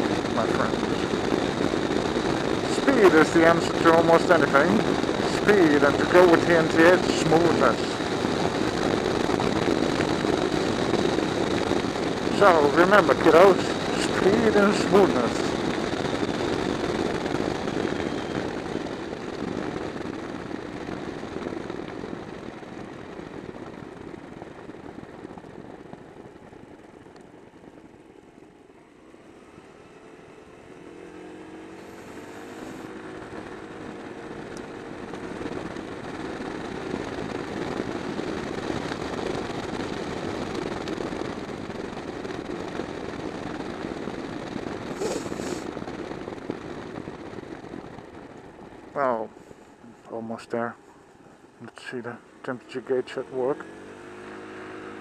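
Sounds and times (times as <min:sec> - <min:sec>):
scooter engine: 0:00.0 - 0:50.3, 0:52.2 - 0:55.0
wind rush: 0:00.0 - 0:55.0.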